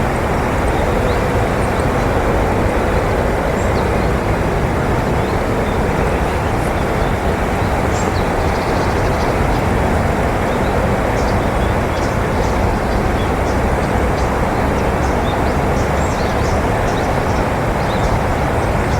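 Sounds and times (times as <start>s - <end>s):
rushing outdoor background noise: 0.0s - 18.9s.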